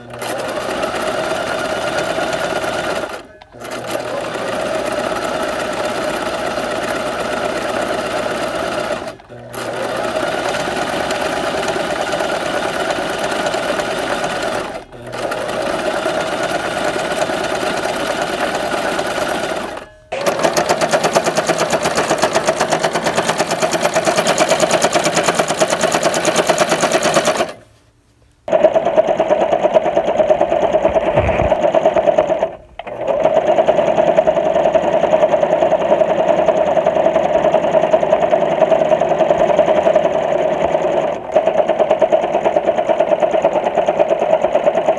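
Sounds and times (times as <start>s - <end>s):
electric sewing machine stitching: 0.0s - 27.6s, 28.5s - 44.9s.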